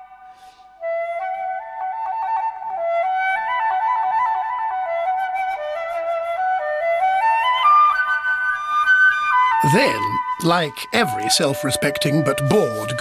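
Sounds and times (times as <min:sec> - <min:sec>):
flute melody: 0:00.0 - 0:13.0.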